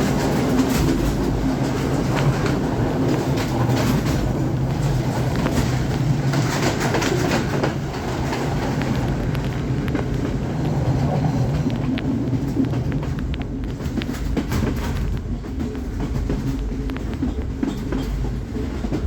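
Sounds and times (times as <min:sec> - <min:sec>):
train rumbling along track: 0:00.0 - 0:19.0
train wheels clicking: 0:00.0 - 0:19.0.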